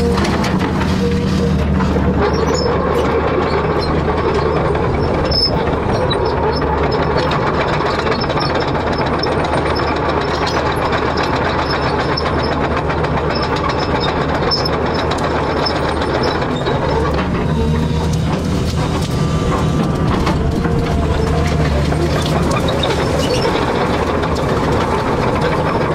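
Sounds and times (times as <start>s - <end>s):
diesel engine running: 0.0s - 25.9s
metallic clanks and rattles: 0.0s - 25.9s.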